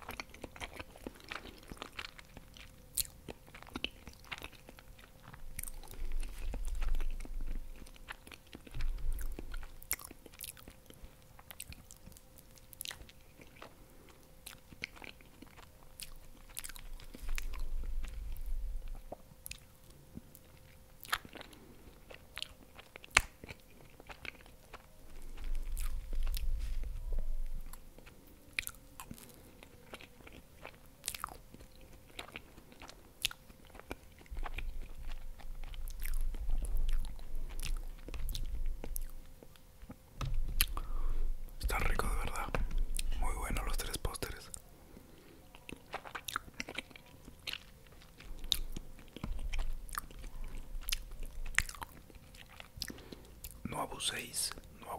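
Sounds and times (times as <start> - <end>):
wet chewing: 0.0 - 54.8
faint steady hum: 0.0 - 54.9.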